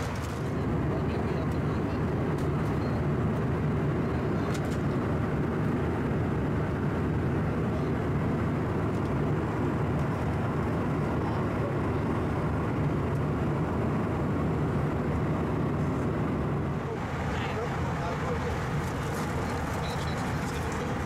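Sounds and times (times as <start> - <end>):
jet cabin hum: 0.0 - 21.0.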